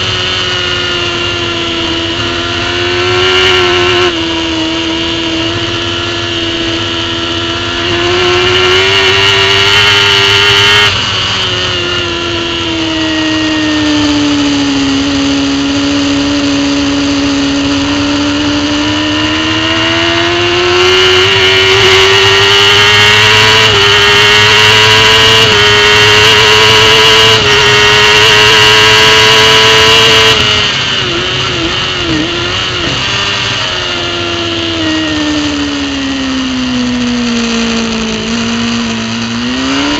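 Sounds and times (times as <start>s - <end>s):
superbike engine at high revs: 0.0s - 39.9s.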